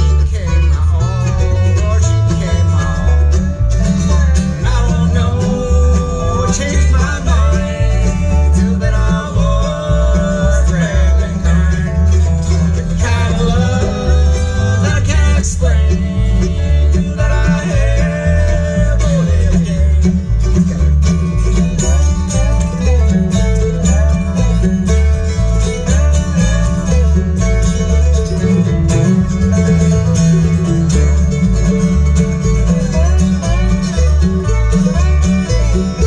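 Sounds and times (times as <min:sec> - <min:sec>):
acoustic guitar: 0:00.0 - 0:36.0
bluegrass band playing: 0:00.0 - 0:36.0
upright bass: 0:00.0 - 0:36.0.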